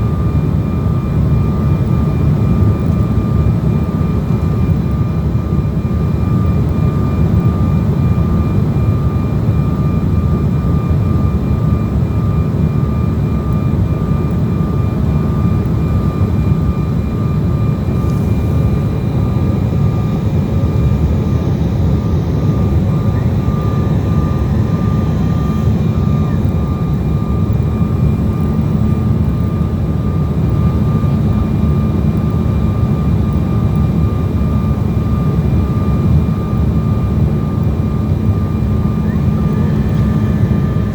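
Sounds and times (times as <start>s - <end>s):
airliner engines rumbling: 0.0s - 40.9s
faint steady whine: 0.0s - 40.9s.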